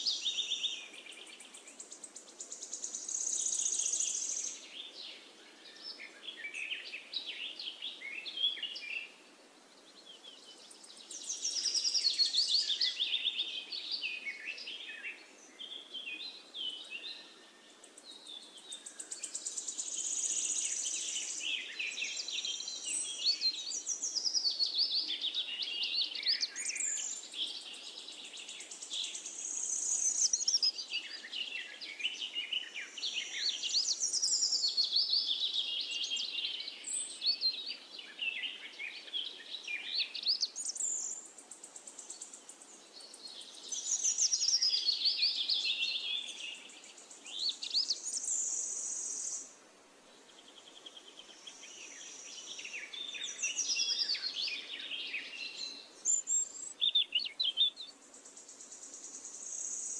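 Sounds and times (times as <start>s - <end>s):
birds chirping and trilling: 0.0s - 49.5s, 50.1s - 59.9s.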